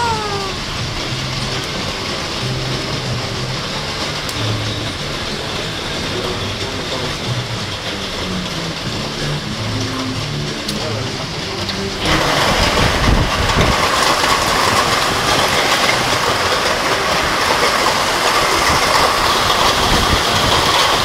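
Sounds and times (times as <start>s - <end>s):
hail clattering: 0.0s - 21.0s
strong wind: 0.0s - 21.0s.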